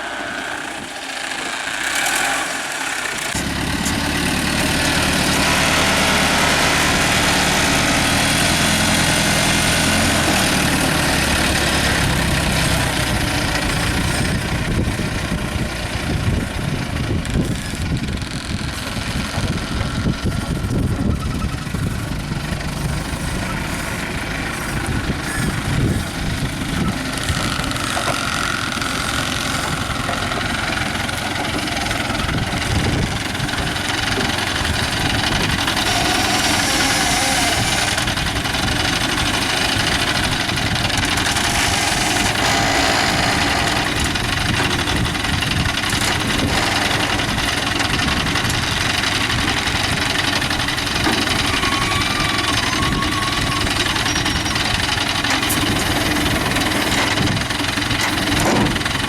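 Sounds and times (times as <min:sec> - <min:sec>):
crane diesel engine running: 0:00.0 - 0:59.0.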